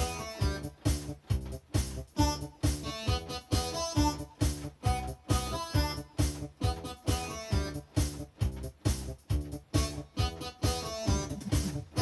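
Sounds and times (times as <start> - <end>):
electronic organ pop tune: 0.0 - 12.0.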